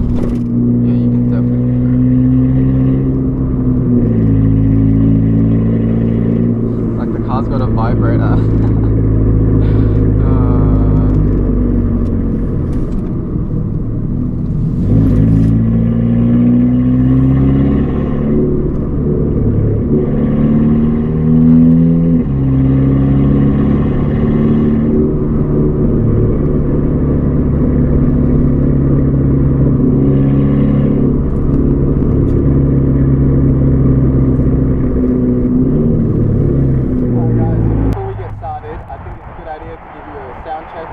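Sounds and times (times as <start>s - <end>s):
car engine revving through exhaust: 0.0s - 40.9s.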